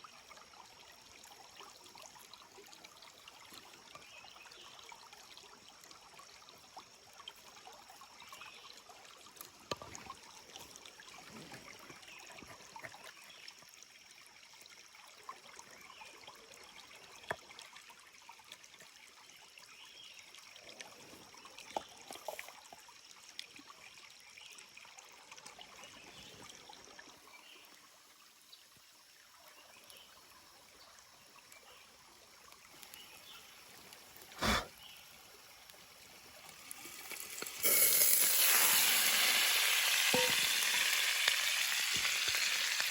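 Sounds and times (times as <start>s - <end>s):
stream trickling: 0.0s - 42.9s.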